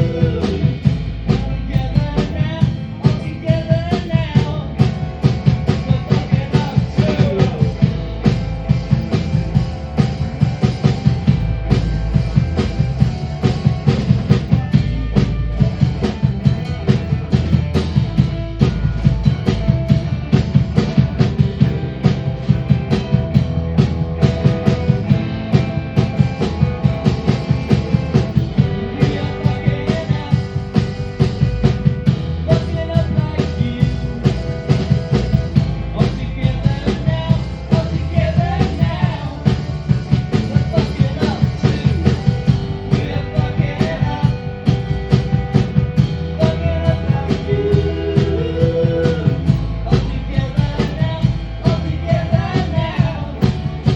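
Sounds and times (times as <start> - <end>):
drum kit beat: 0.0 - 53.9
rock band playing live: 0.0 - 53.9.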